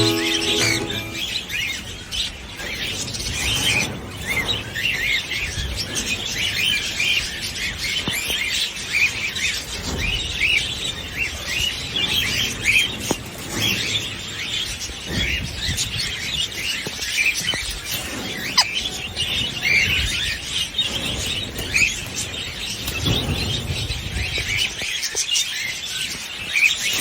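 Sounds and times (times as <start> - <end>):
parrots chirping and chattering: 0.0 - 24.8.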